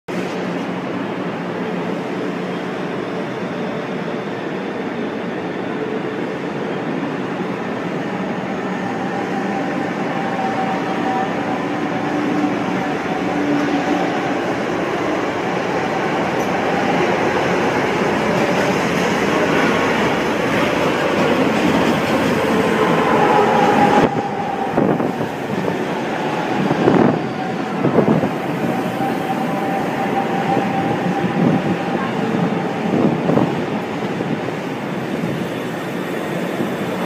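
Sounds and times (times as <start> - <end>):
train wheels rumbling: 1.8 - 37.0.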